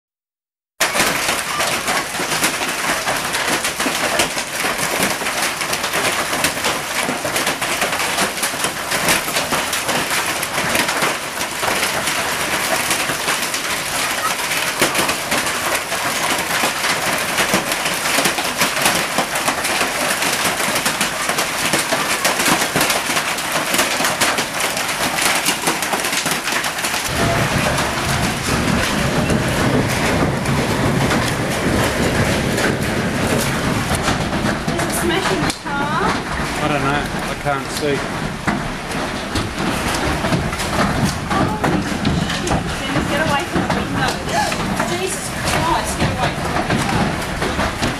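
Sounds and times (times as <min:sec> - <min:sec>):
hail and rain clattering: 0:00.8 - 0:47.9.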